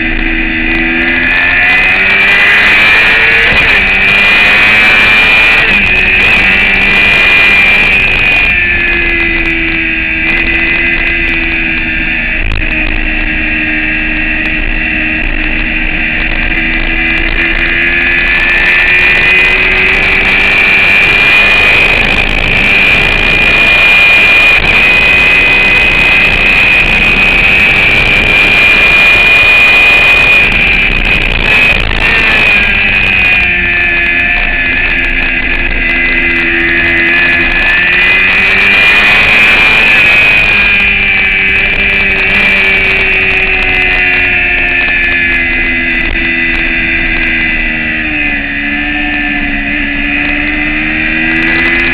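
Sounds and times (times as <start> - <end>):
motorcycle engine running hard: 0.0 - 51.9
rush of noise: 0.0 - 51.9.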